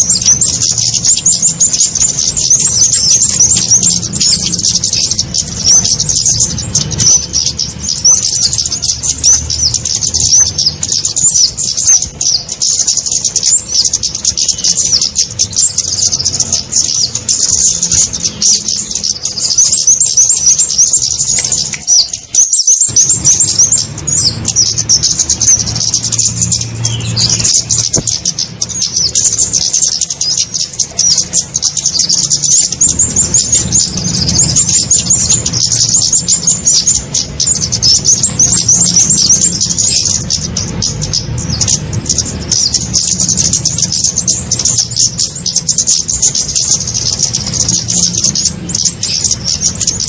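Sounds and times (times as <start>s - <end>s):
high-pitched bird call chirps: 0.0s - 50.0s.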